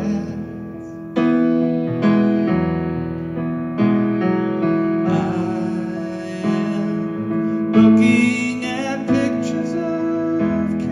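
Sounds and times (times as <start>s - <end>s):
piano chords ringing: 0.0s - 10.9s.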